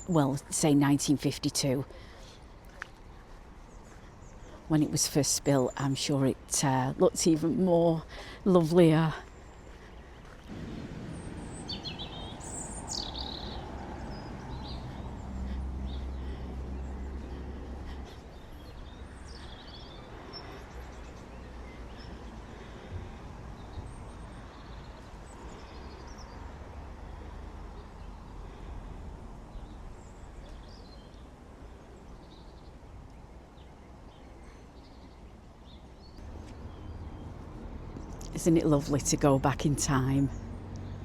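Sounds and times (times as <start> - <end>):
small birds chirping: 0.0 - 28.6, 29.5 - 41.0.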